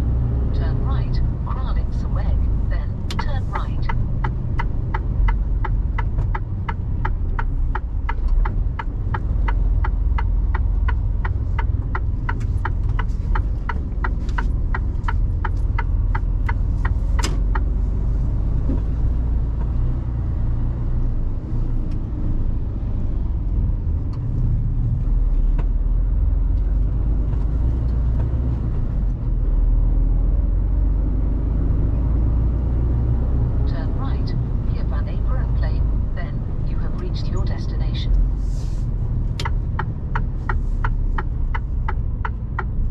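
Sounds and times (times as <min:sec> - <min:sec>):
road noise inside cab: 0:00.0 - 0:42.9
truck diesel engine rumble: 0:00.0 - 0:42.9
turn signal ticking: 0:00.4 - 0:42.9.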